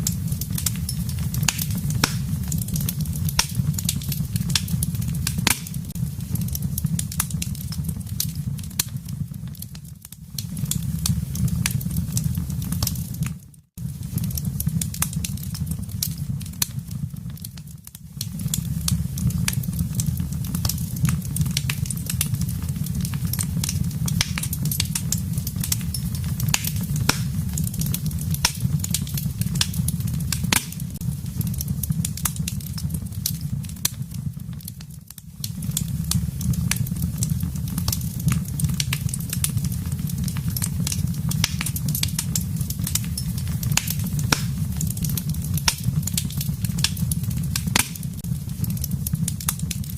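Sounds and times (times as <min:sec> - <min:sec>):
fire rumbling: 0:00.0 - 0:49.9
logs crackling and popping: 0:00.0 - 0:49.9.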